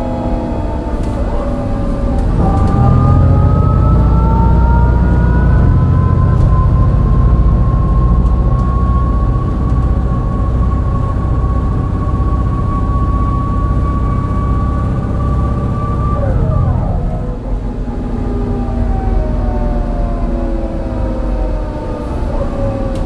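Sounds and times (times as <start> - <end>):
bus engine pulling uphill: 0.0 - 23.0
gearbox whine: 0.0 - 23.0.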